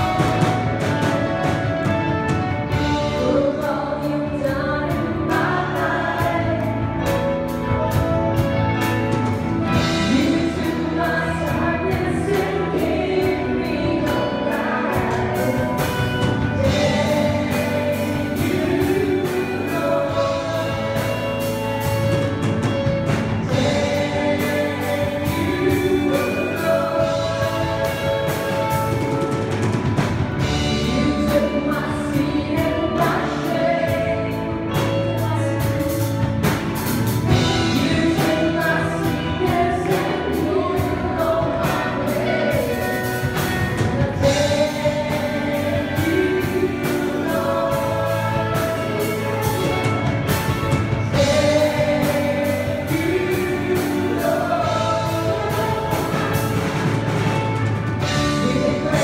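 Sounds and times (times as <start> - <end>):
band with drums guitar keyboard: 0.0 - 59.0
choir singing gospel song: 0.0 - 59.0.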